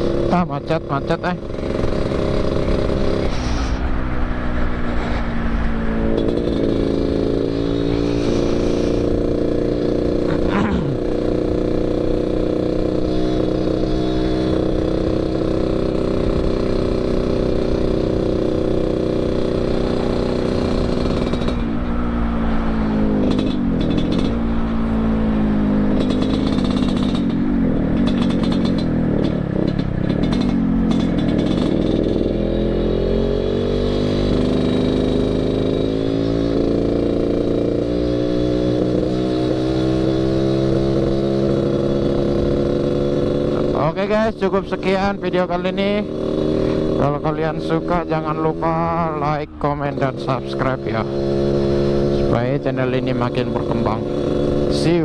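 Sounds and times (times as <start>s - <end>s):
raspy two-stroke motorcycle engine: 0.0s - 3.6s, 4.7s - 55.0s.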